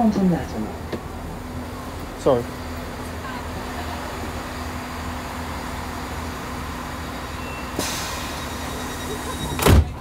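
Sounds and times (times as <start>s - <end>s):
train engine humming: 0.0s - 10.0s.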